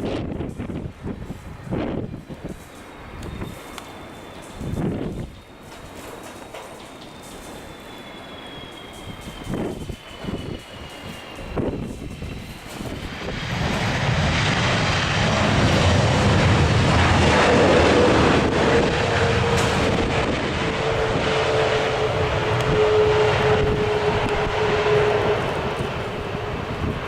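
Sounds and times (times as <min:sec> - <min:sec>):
jet engine whine: 0:00.0 - 0:27.0
jet engines rushing: 0:00.0 - 0:27.0.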